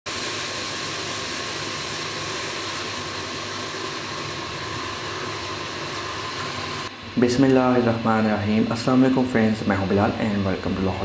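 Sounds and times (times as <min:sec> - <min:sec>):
milk tea sizzling and boiling: 0:00.1 - 0:11.0.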